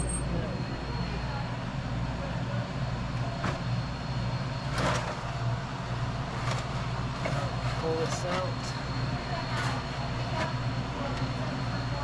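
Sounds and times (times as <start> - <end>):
compressor electrical hum: 0.0 - 12.0.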